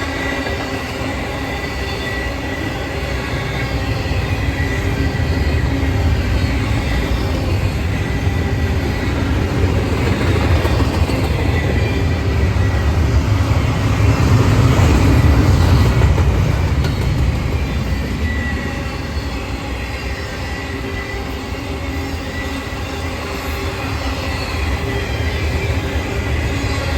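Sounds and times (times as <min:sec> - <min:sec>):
faint high wheel squeal: 0:00.0 - 0:14.1, 0:15.0 - 0:26.9
train wheels rumbling on rail: 0:00.0 - 0:26.9.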